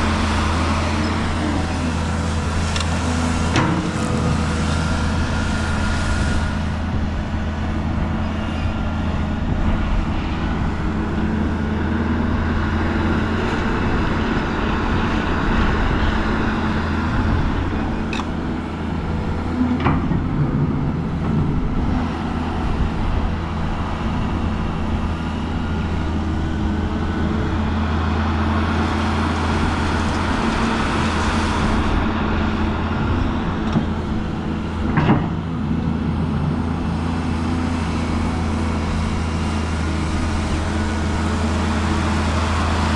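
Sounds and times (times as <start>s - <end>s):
heavy machinery diesel engine running: 0.0s - 42.9s.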